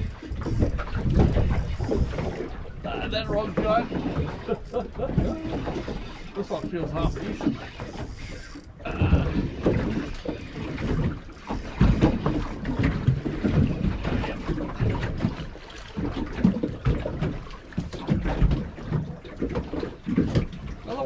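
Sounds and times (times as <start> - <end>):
wind buffeting microphone: 0.0 - 18.8
water slapping against boat hull: 0.0 - 21.0.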